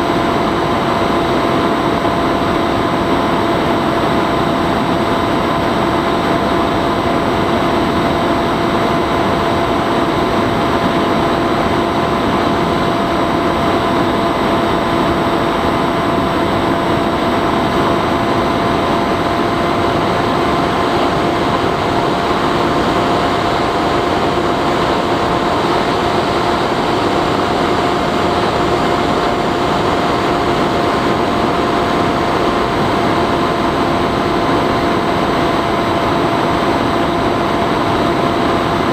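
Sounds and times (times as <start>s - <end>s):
electric motor and propeller whine: 0.0s - 38.9s.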